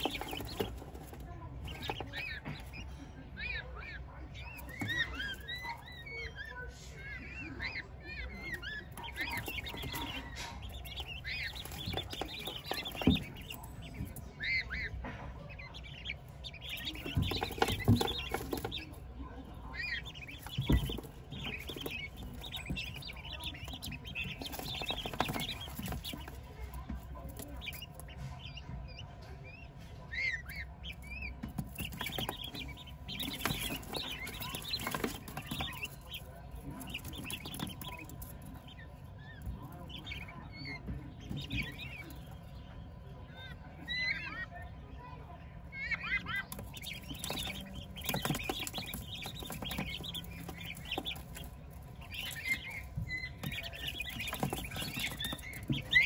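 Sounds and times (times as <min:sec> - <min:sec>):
quail chirping: 0:00.0 - 0:56.0.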